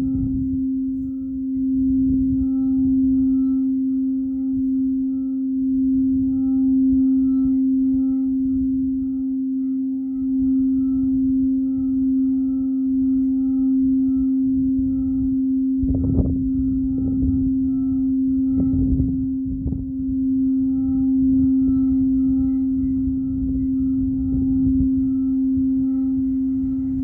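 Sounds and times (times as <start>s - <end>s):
singing bowl tone: 0.0s - 27.0s.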